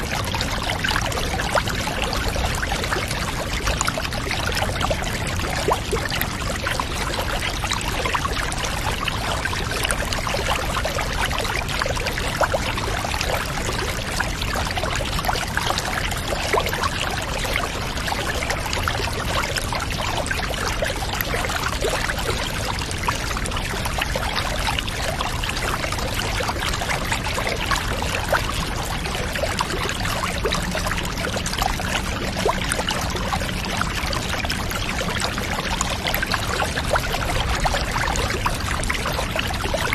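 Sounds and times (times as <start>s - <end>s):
water pouring and trickling: 0.0s - 39.9s.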